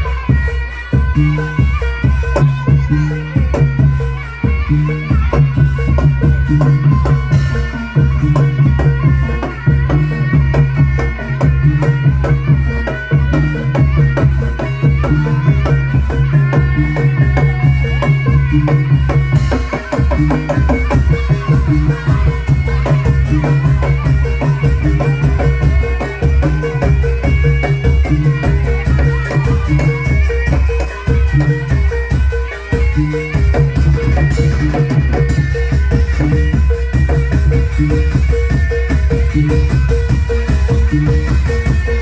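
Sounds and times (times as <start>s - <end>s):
rattling percussion: 0.0s - 42.0s
sustained melody line: 6.5s - 42.0s.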